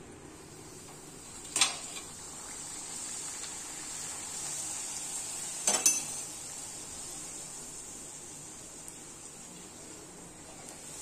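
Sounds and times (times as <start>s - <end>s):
bread sizzling in hot oil: 0.0s - 11.0s.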